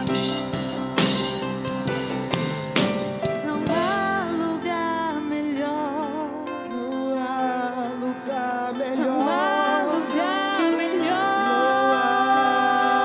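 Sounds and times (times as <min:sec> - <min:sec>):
person singing: 0:00.0 - 0:02.2, 0:03.2 - 0:13.0
acoustic guitar: 0:00.0 - 0:13.0.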